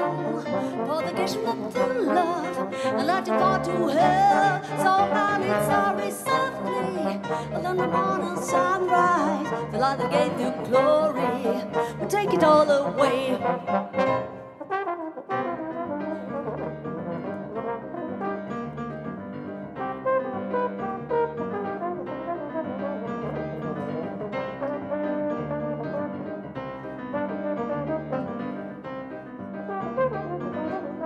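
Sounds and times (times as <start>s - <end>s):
piano accompaniment: 0.0s - 31.0s
trombone melody: 0.0s - 31.0s.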